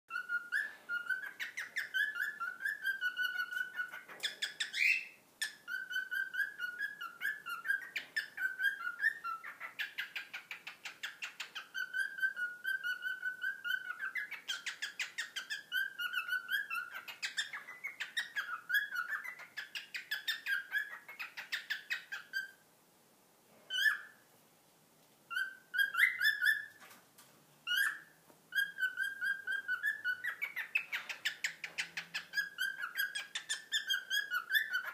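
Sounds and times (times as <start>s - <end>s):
cockatiel whistling song: 0.1s - 22.6s, 23.7s - 24.2s, 25.3s - 26.8s, 27.6s - 34.9s.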